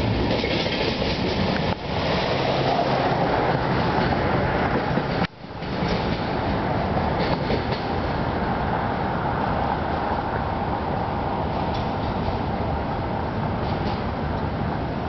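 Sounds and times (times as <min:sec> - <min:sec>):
freight train wheels rolling on rails: 0:00.0 - 0:15.0.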